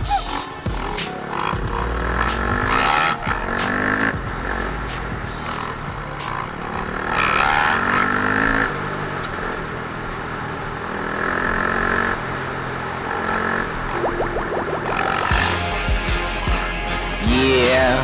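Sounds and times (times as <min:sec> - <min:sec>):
dirt bike engines revving: 0:00.0 - 0:09.7, 0:10.9 - 0:16.1.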